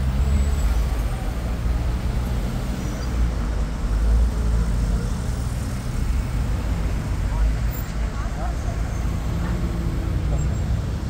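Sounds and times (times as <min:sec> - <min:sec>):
cars passing on road: 0:00.0 - 0:11.0.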